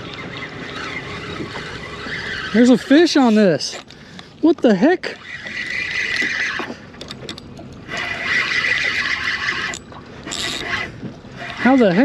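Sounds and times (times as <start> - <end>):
fishing reel whirring: 0.0 - 3.9, 5.0 - 12.0.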